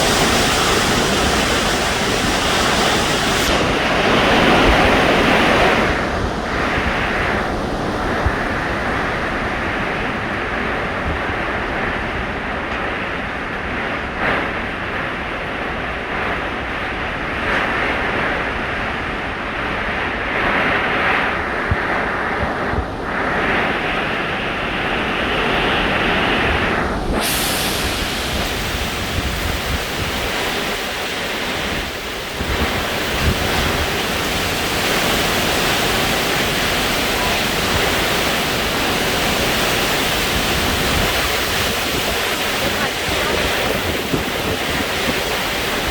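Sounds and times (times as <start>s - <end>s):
heavy rain: 0.0s - 45.9s
hurricane-force wind: 0.0s - 45.9s
wind buffeting microphone: 0.0s - 45.9s.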